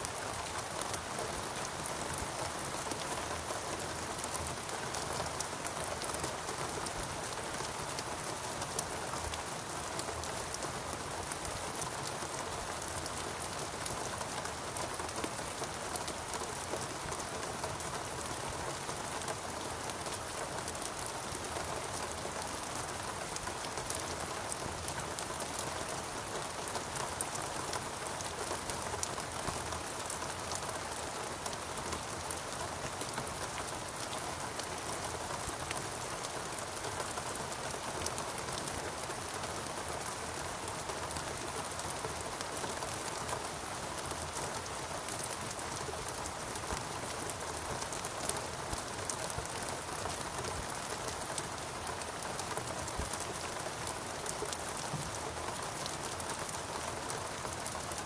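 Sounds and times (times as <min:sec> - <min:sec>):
heavy rain on foliage: 0:00.0 - 0:58.0.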